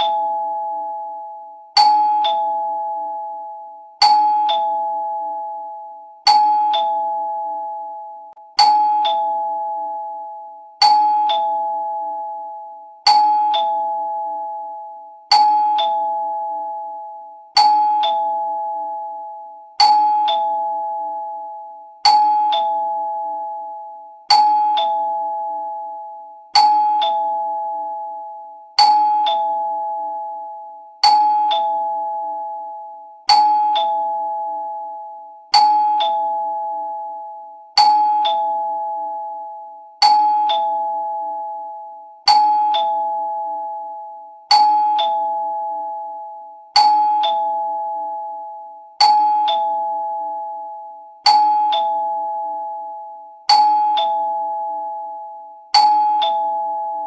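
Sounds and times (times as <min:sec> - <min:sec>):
two-note doorbell chime: 0:00.0 - 0:57.0.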